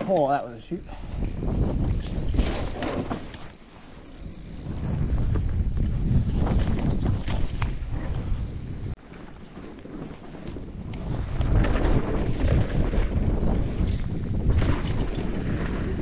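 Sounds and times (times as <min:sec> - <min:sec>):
bike tyres rumbling on dirt: 0:00.0 - 0:16.0
wind buffeting microphone: 0:00.0 - 0:16.0.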